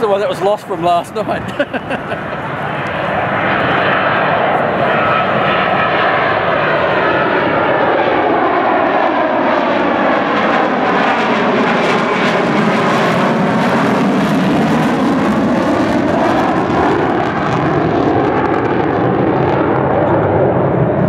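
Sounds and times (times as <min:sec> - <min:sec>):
jet bomber passing overhead: 0:00.0 - 0:21.0.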